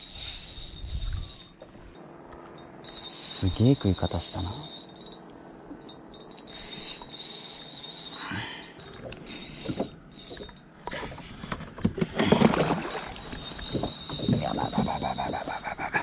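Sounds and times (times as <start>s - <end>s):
fishing reel clicking: 0.0s - 10.8s, 13.1s - 15.8s.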